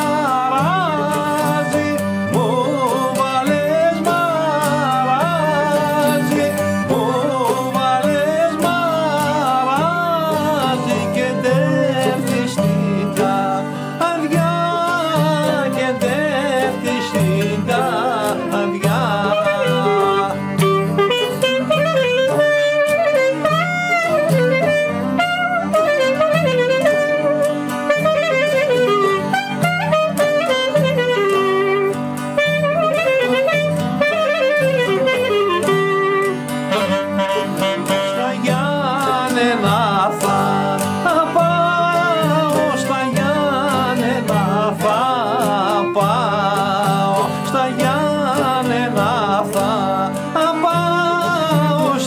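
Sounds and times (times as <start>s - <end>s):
acoustic guitar accompaniment: 0.0s - 52.0s
clarinet melody: 0.0s - 52.0s.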